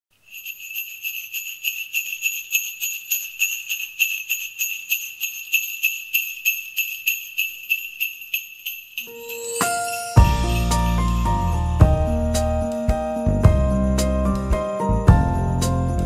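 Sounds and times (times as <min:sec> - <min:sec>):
jingle bells shaken: 0:00.2 - 0:16.0.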